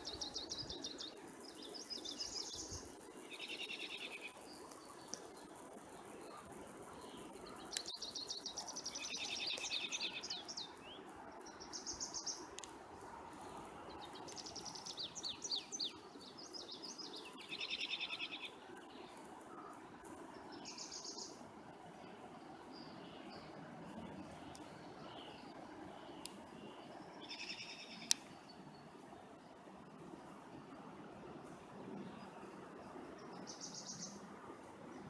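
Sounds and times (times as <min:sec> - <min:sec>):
songbirds trilling and chirping: 0:00.0 - 0:35.0
steady background hiss: 0:00.0 - 0:35.0.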